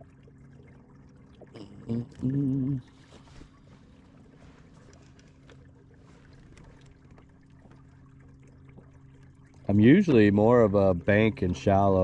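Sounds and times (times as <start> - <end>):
light water noise: 0.0 - 12.0.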